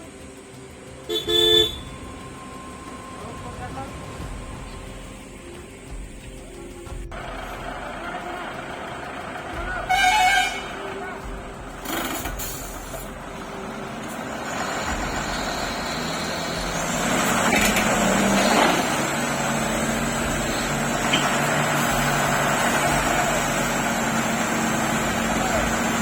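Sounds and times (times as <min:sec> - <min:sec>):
lorry diesel engine running: 0:00.0 - 0:26.0.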